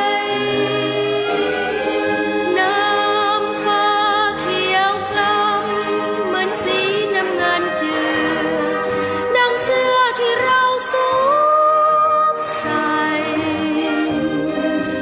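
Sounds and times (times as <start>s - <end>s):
voices singing together: 0.0s - 15.0s.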